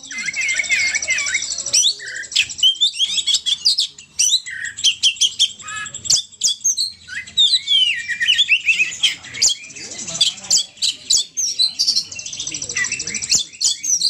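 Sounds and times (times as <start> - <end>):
bird chirping and whistling: 0.0 - 14.0.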